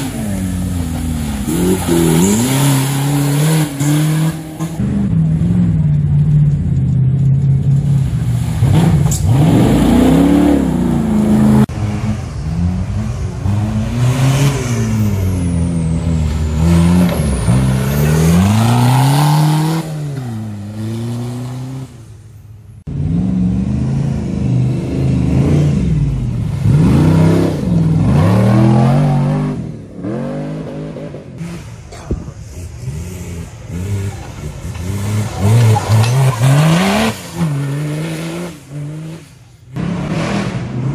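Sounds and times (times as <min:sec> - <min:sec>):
off-road engines revving hard: 0:00.0 - 0:05.8, 0:07.7 - 0:22.1, 0:22.8 - 0:40.9.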